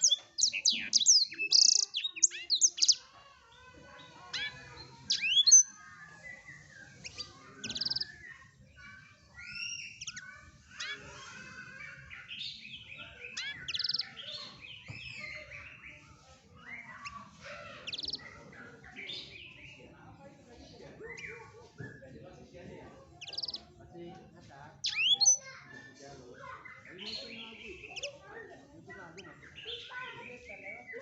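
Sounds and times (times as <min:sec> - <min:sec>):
canary singing: 0:00.0 - 0:31.0.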